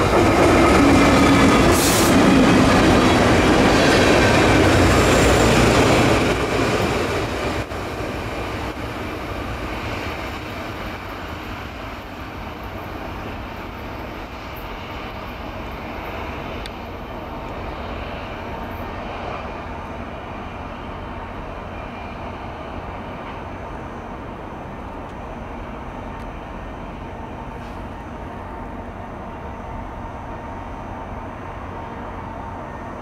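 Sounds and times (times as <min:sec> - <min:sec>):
diesel locomotive engine running: 0:00.0 - 0:33.0
highway traffic noise: 0:00.0 - 0:33.0
train wheels rolling on rails: 0:00.0 - 0:33.0.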